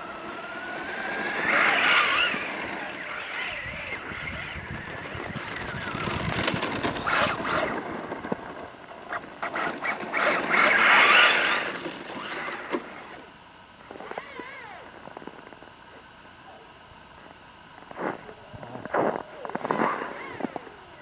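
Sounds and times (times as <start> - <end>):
high-pitched electric motor whine: 0.0 - 21.0.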